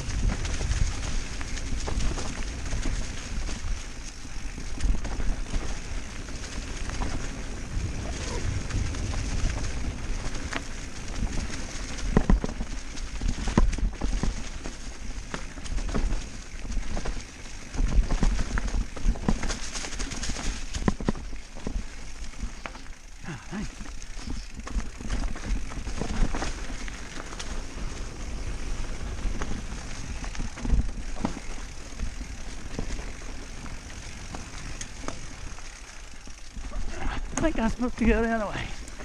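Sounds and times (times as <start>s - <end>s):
bike knocks and rattles: 0.0s - 39.0s
bike tyre and trail noise: 0.0s - 39.0s
wind rumbling on microphone: 0.0s - 39.0s.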